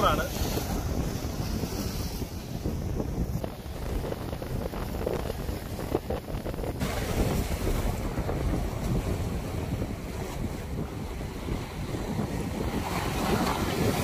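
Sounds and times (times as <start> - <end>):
sea waves: 0.0 - 14.0
wind on microphone: 0.0 - 14.0.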